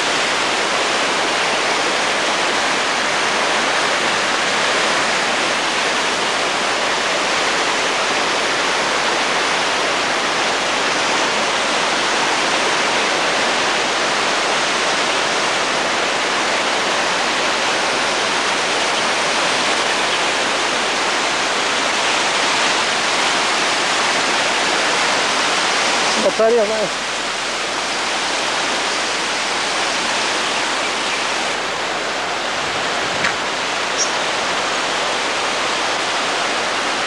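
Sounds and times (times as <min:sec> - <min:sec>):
loud rushing water: 0:00.0 - 0:37.0.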